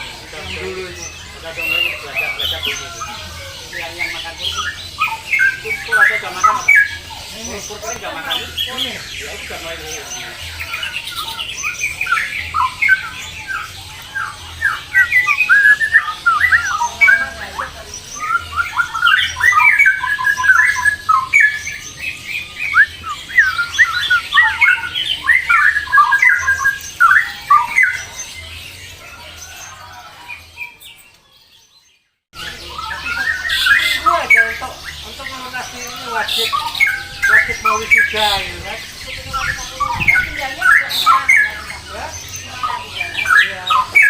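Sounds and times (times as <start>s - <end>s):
birds chirping and squawking: 0.0s - 44.0s.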